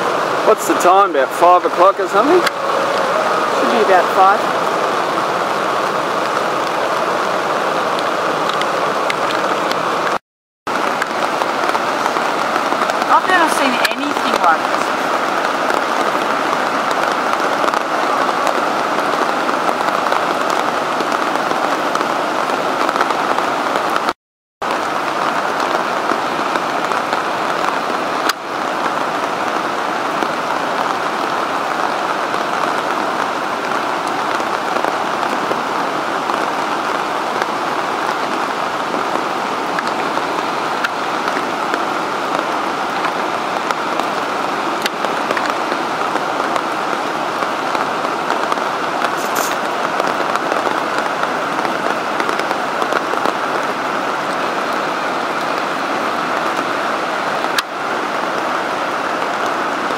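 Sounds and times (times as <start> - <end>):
water rushing over dam: 0.0 - 59.9.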